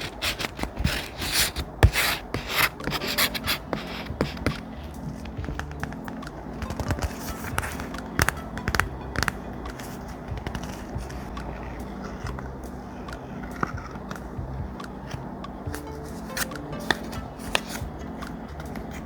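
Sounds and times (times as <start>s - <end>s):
soft background music: 0.0s - 19.0s
thick paper crinkling: 0.0s - 19.0s.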